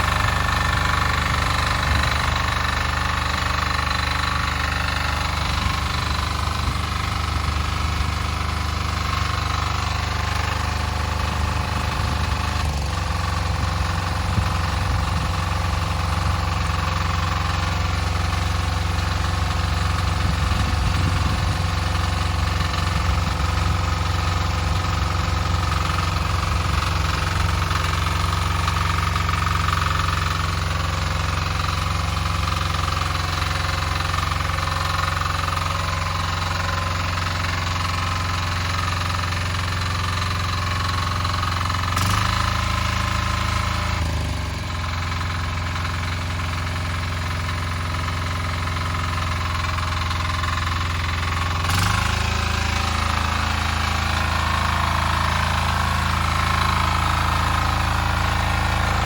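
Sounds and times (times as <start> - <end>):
walk-behind tractor engine running: 0.0 - 59.0.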